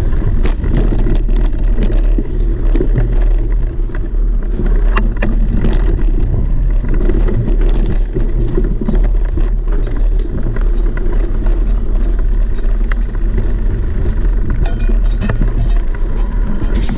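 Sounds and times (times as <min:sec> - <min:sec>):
vehicle low rumble: 0:00.0 - 0:16.9.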